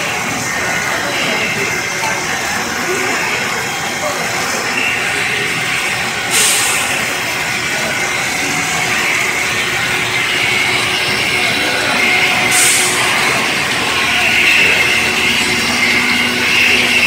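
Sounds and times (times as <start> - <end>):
snack extruder machine din: 0.0 - 17.0.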